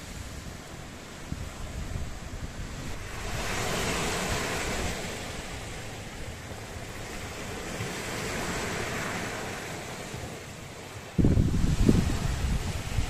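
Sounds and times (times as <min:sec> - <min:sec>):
sea waves washing onto beach: 0:00.0 - 0:13.0
wind rumble on microphone: 0:00.0 - 0:13.0.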